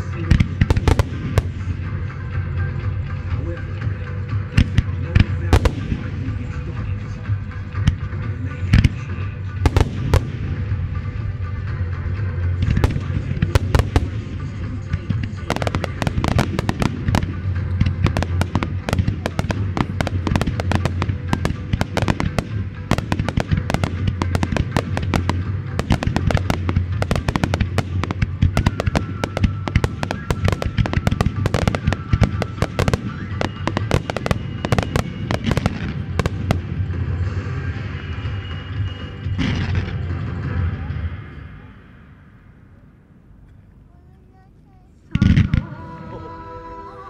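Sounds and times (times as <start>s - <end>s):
fireworks bursting and crackling: 0.0s - 41.7s
show music: 0.0s - 42.7s, 45.2s - 47.0s.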